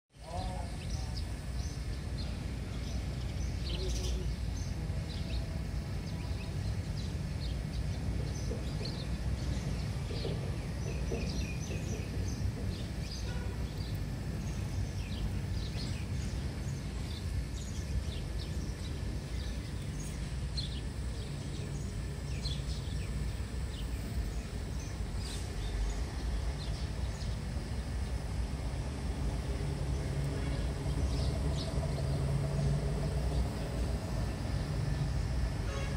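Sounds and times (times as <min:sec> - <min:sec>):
small birds chirping: 0:00.2 - 0:35.6
steady low rumble: 0:00.3 - 0:35.9.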